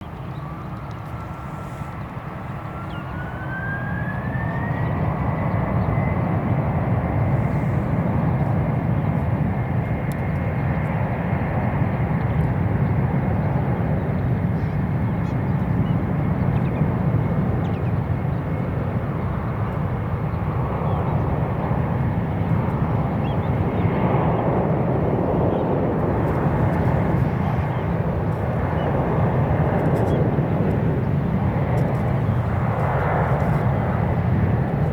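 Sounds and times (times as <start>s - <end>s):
jet engines whining and roaring: 0.0s - 34.9s.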